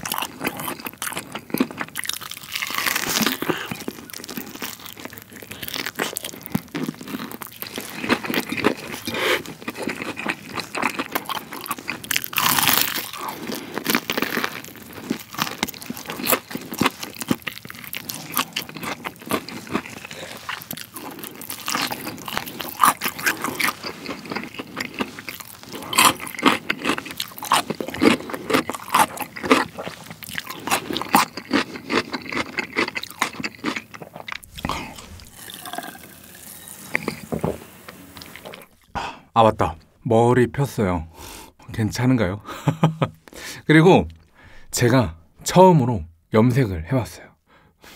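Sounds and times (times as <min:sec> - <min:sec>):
crunching and chewing fried chicken: 0:00.0 - 0:39.0.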